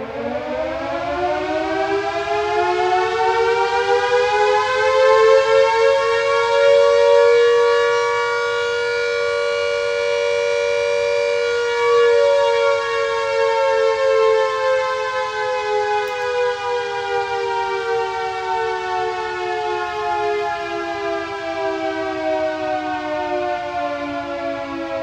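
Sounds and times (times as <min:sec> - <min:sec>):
air raid siren wailing: 0:00.0 - 0:25.0.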